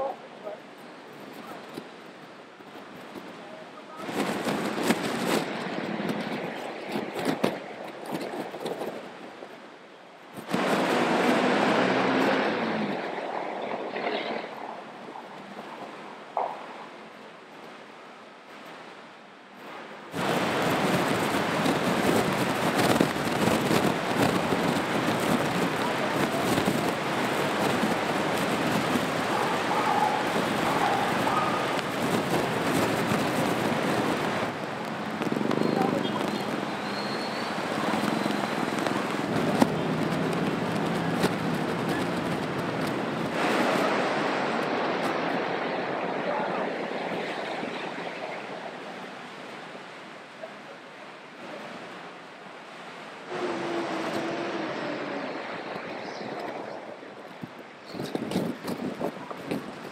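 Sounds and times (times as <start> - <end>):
floodwater rushing on street: 0.0 - 59.9
rain: 0.0 - 59.9
steady vehicle noise: 0.3 - 59.9
water splashing and churning: 1.6 - 59.9.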